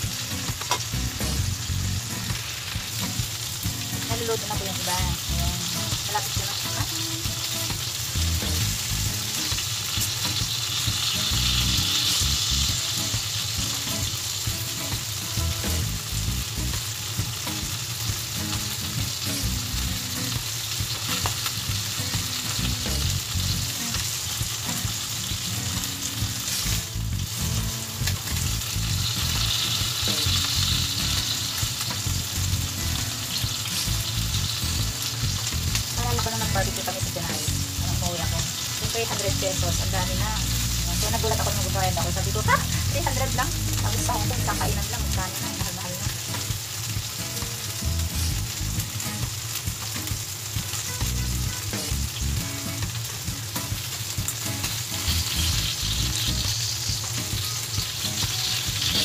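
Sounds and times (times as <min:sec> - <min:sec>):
chicken sizzling on a grill pan: 0:00.0 - 0:59.0.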